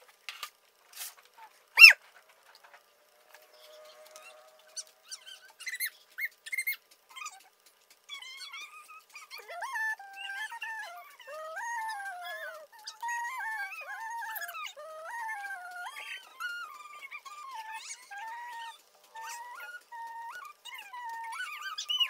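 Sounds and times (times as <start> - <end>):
animal whining: 1.8 - 2.0, 3.5 - 22.0.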